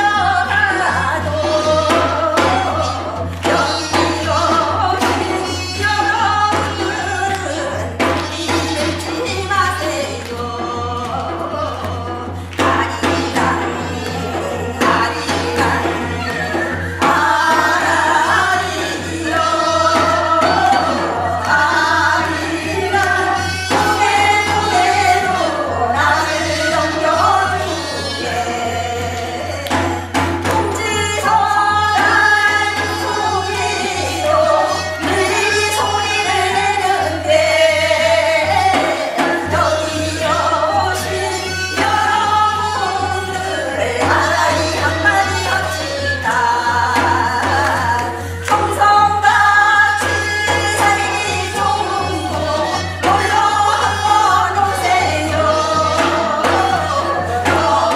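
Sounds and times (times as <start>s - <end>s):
percussion strokes: 0.0s - 57.9s
voices singing fast together: 0.0s - 57.9s.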